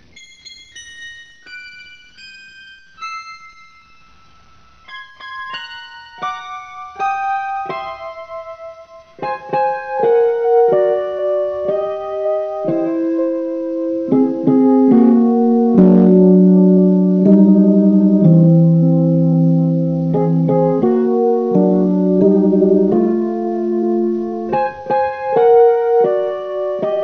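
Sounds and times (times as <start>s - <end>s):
slow keyboard melody: 0.0s - 27.0s.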